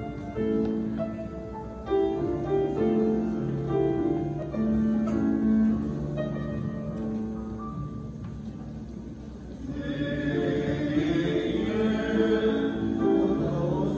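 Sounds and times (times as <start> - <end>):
slow piano melody: 0.0 - 13.9.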